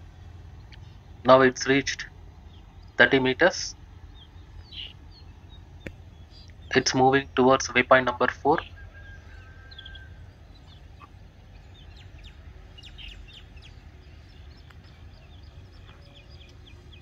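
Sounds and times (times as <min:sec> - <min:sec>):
faint birds chirping: 0:00.0 - 0:17.0
low steady rumble: 0:00.0 - 0:17.0.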